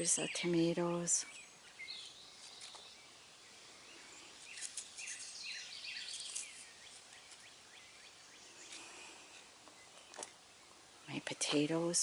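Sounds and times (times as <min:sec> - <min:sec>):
small bird chirping: 0:00.0 - 0:10.8
quiet steady hiss: 0:00.0 - 0:12.0.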